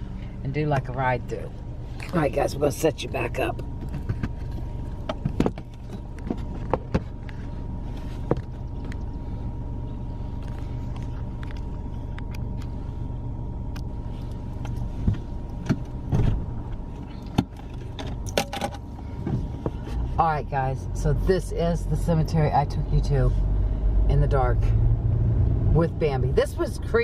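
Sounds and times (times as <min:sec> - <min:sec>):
engine and road rumble: 0:00.0 - 0:27.0
faint steady hum: 0:00.0 - 0:27.0.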